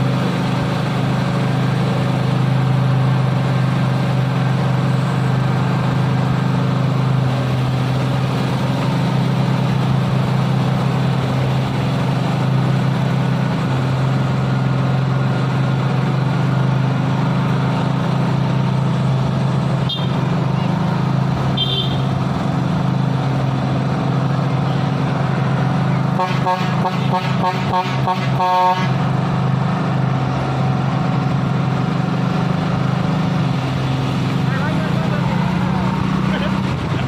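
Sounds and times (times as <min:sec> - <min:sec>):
truck diesel engine running hard: 0:00.0 - 0:37.0.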